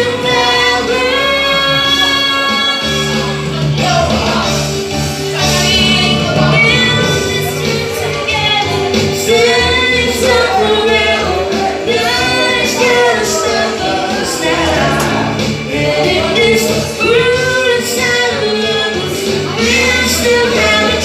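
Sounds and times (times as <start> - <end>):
woman and man singing duet: 0.0 - 4.6, 5.4 - 21.0
instrumental backing: 0.3 - 21.0.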